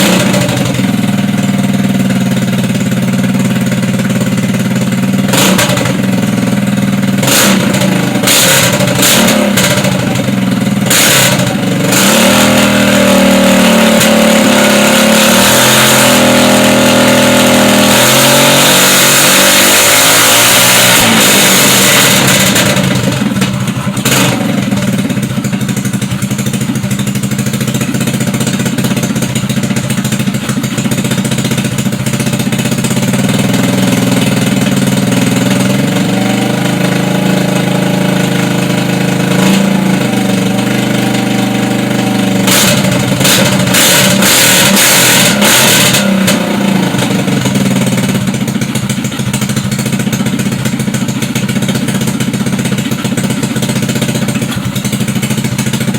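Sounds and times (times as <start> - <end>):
scooter engine revving and idling: 0.0 - 55.9.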